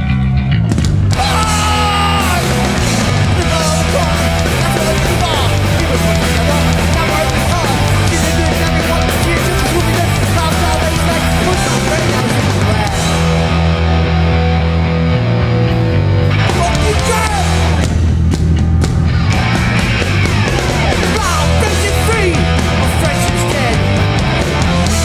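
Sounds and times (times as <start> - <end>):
punk band playing live: 0.0 - 25.0.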